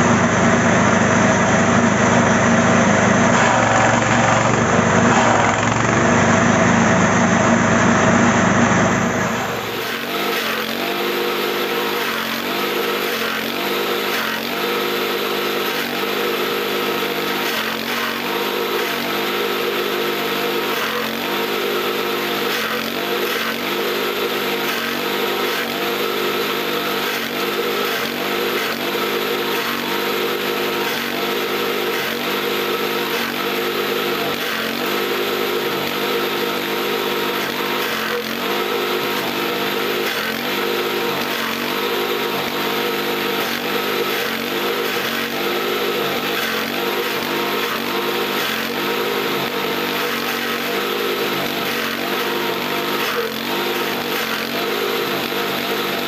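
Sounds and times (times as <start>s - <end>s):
fodder being cut: 0.0s - 56.0s
small engine running chopper: 0.0s - 56.0s.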